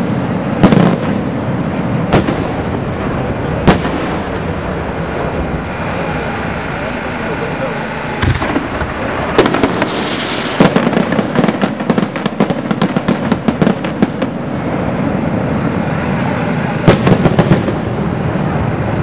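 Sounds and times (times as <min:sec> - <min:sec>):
fireworks bangs and crackles: 0:00.0 - 0:19.0
fireworks rumble: 0:00.0 - 0:19.0.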